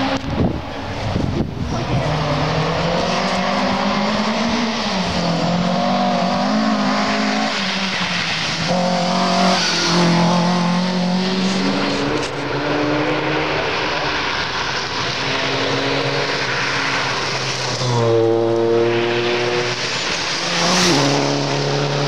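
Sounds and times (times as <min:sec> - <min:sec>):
rally car engine revving hard: 0:01.7 - 0:14.2, 0:14.8 - 0:22.0.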